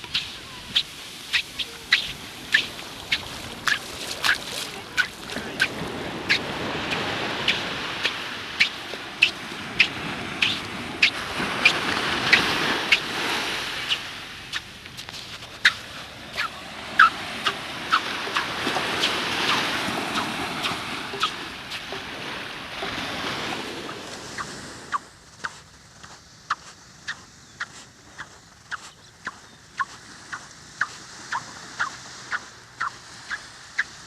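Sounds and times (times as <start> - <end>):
footsteps squeaking on sand: 0.0 - 34.0
surf rushing: 0.0 - 34.0.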